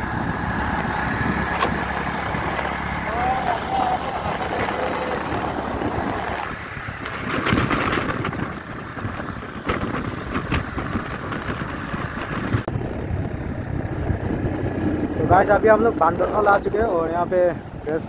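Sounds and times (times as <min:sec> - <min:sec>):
motorcycle engine running: 0:00.0 - 0:16.8
road noise: 0:00.0 - 0:18.0
wind buffeting microphone: 0:00.0 - 0:18.0.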